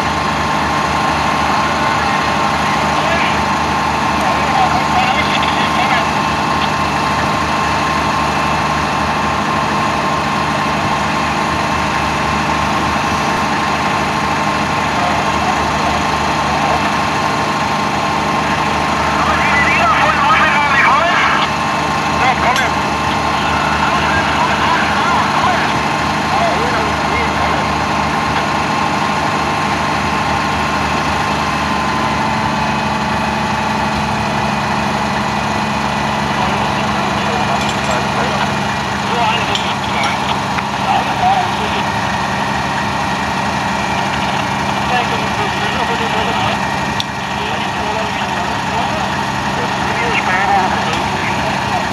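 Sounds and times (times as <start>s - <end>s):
diesel engines idling: 0.0s - 51.9s
steady high whine: 0.0s - 51.9s.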